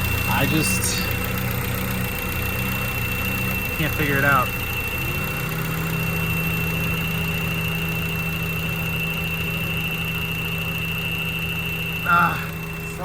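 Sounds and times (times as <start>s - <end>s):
car engine idling: 0.0s - 13.0s
high-pitched whine: 0.0s - 13.0s.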